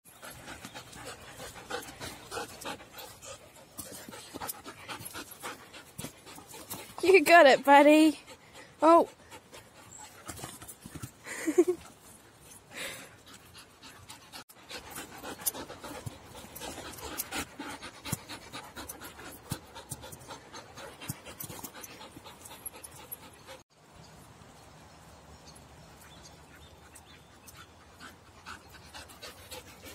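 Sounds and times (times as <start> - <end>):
dog panting: 0.1 - 23.6, 26.4 - 29.9.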